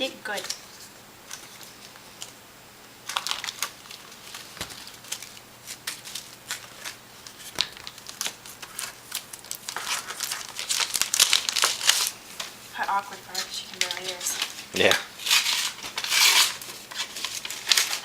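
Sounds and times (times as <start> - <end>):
paper crinkling and rustling: 3.0 - 18.0.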